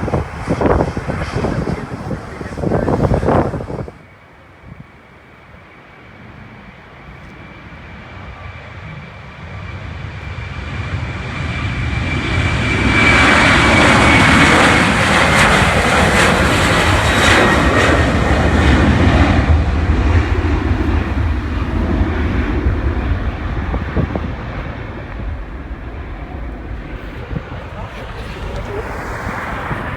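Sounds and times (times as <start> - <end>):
jet airliner engines at takeoff: 0.0 - 29.9.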